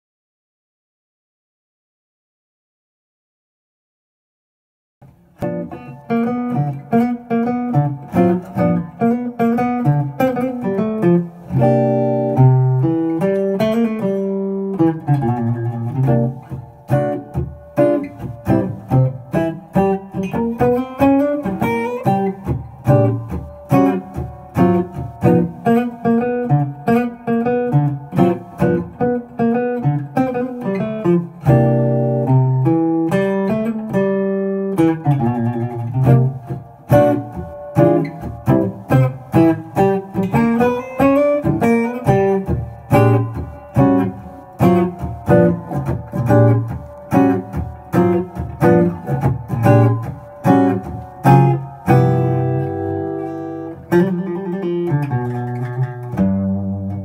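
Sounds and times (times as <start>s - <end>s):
jazz guitar melody: 5.0s - 57.0s.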